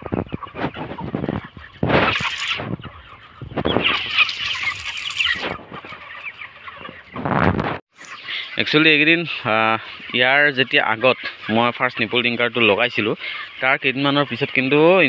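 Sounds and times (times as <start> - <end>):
chickens clucking and peeping: 0.0 - 15.0.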